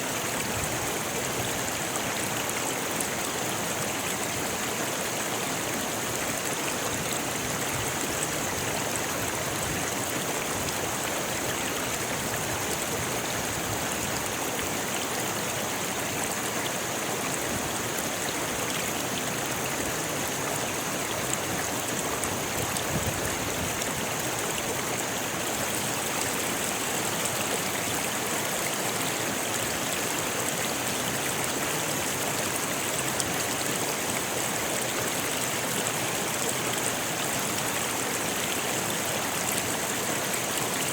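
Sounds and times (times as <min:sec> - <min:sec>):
river rushing over stones: 0:00.0 - 0:40.9.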